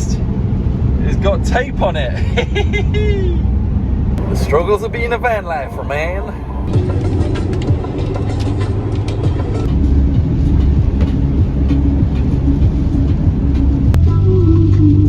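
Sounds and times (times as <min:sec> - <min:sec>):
engine and road noise: 0:00.0 - 0:15.0.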